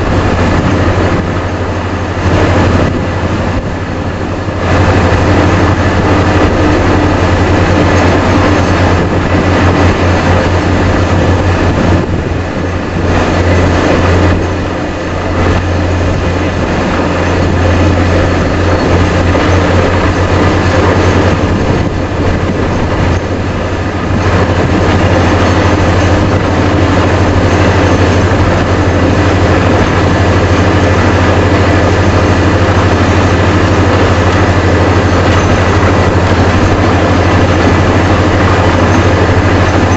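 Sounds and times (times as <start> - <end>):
compressor and drill rig running: 0.0 - 39.9.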